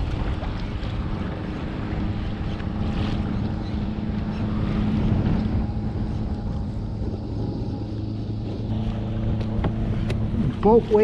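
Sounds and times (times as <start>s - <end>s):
distant motorboat engine hum: 0.0s - 11.0s
small waves lapping: 0.0s - 11.0s
wind buffeting the microphone: 0.0s - 11.0s.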